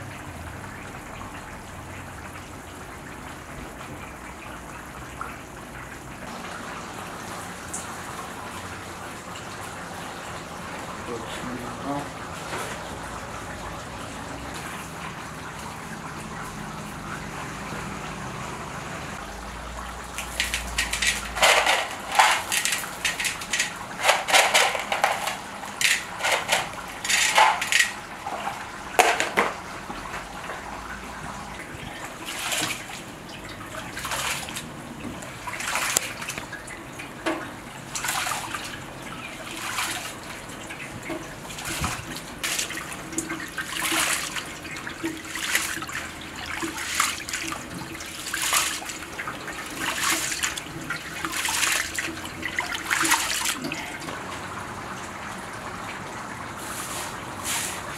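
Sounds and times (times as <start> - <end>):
tap water running: 0.0 - 57.9
water sloshing and splashing: 0.0 - 57.9.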